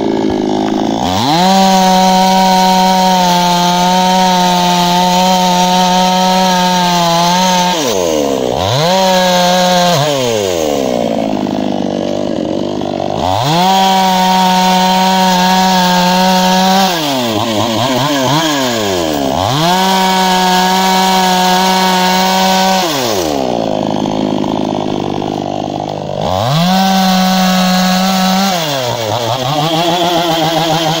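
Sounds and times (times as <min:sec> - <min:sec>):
chainsaw cutting logs: 0:00.0 - 0:31.0.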